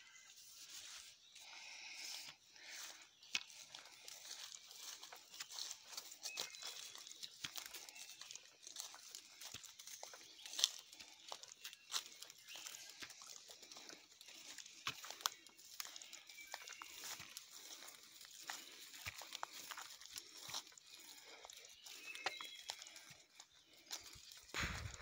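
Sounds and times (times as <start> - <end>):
footsteps through dry leaves: 0.0 - 25.0.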